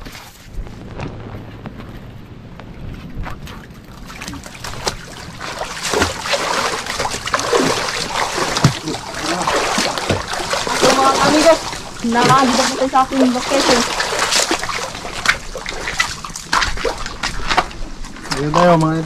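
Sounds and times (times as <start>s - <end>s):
water splashing and trickling: 2.8s - 19.0s.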